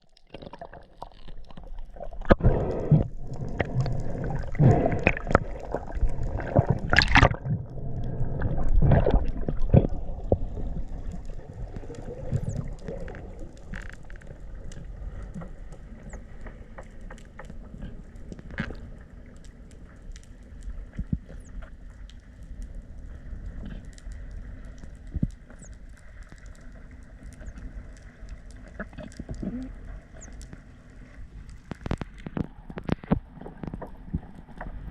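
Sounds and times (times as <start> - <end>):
faint clicks underwater: 0.0 - 34.9
water sloshing and gurgling: 0.0 - 34.9.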